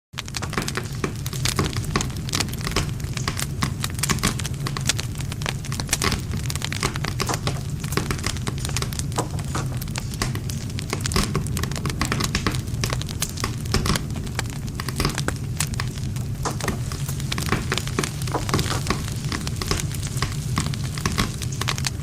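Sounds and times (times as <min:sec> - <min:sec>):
campfire crackling and popping: 0:00.1 - 0:22.0.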